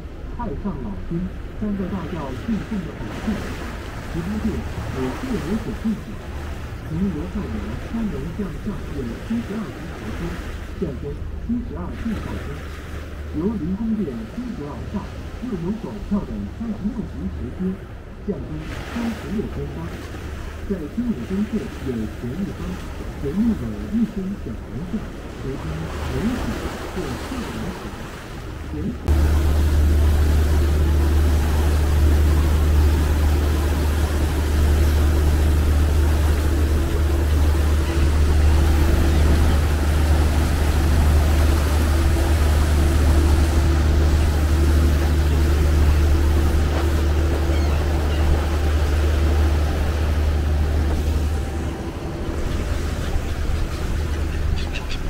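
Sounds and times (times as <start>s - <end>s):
boat engine rumble: 0.0s - 55.0s
rushing water: 0.0s - 55.0s
wind: 0.0s - 55.0s.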